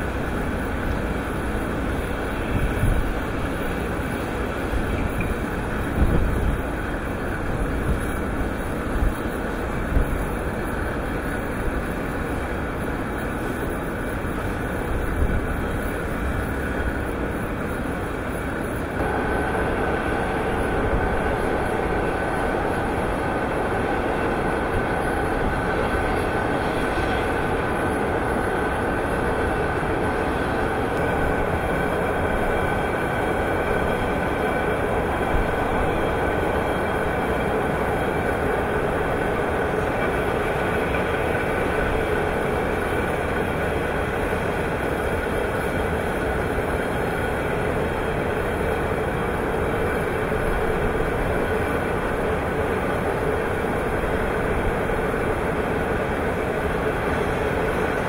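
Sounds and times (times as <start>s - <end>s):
machinery rumbling and rattling: 0.0s - 58.0s
thin mechanical whine: 0.0s - 58.0s.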